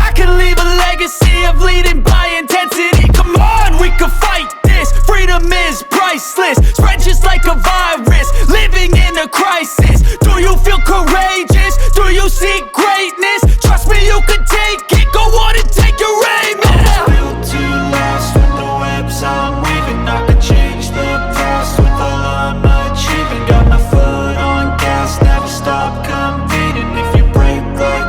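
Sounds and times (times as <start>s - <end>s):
hip hop music with heavy bass: 0.0s - 28.0s
person rapping: 0.0s - 28.0s.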